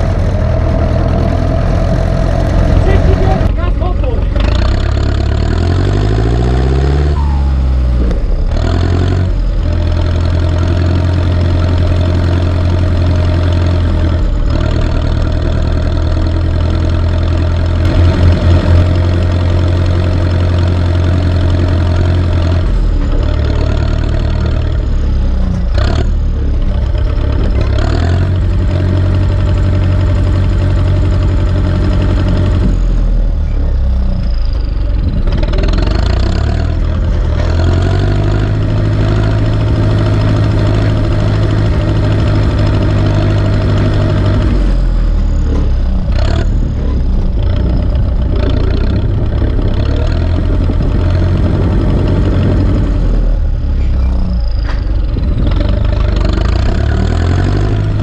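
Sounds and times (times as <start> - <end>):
tractor diesel engine running: 0.0 - 58.0
engine knocks: 7.8 - 33.1, 33.7 - 58.0.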